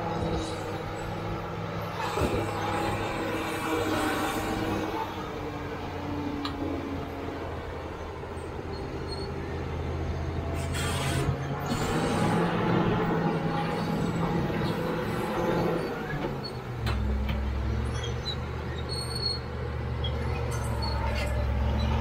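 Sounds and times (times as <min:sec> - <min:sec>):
bulldozer diesel engine: 0:00.0 - 0:22.0.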